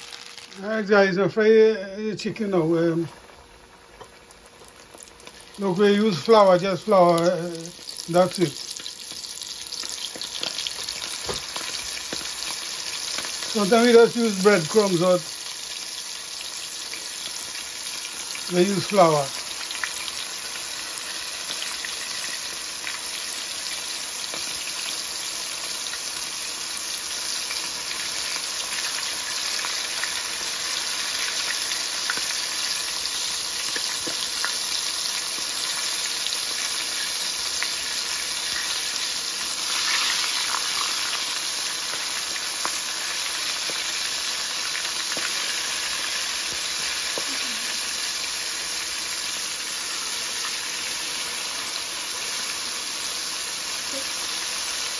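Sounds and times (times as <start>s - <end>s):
chicken deep-frying in hot oil: 0.0s - 54.9s.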